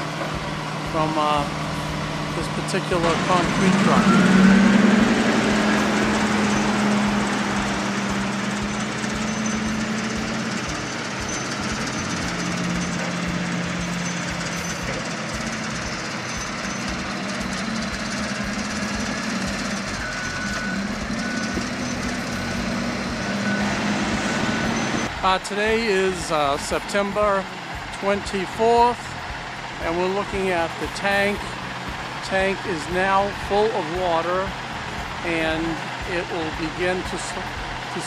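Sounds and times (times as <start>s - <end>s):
heavy diesel machinery engines: 0.0s - 38.0s.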